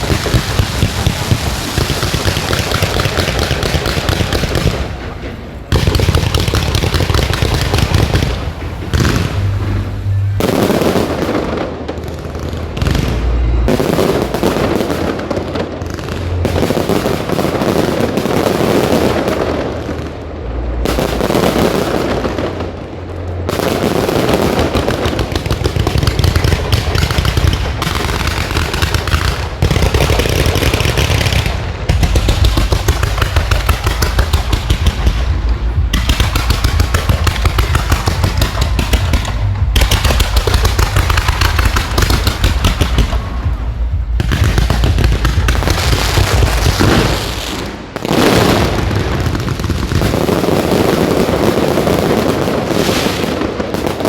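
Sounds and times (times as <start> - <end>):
deep rumble: 0.0 - 51.6
fireworks bangs and crackling: 0.0 - 54.0.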